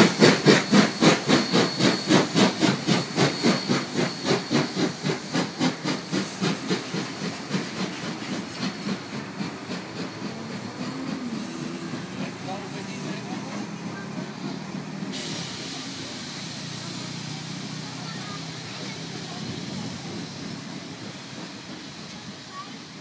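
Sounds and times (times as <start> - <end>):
steam locomotive exhaust beating: 0.0 - 23.0.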